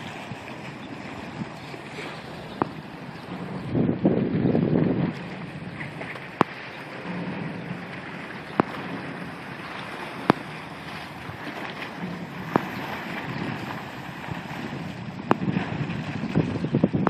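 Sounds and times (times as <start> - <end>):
boat engine running: 0.0 - 17.0
wind on microphone: 0.0 - 17.0.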